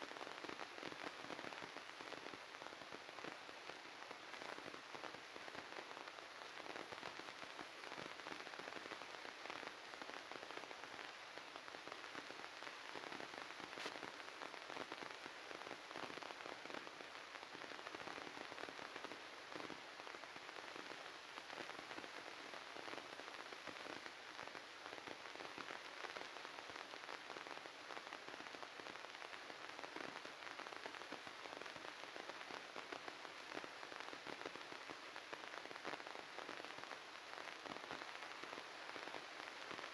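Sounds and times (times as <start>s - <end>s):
crackling static hiss: 0.0s - 39.9s.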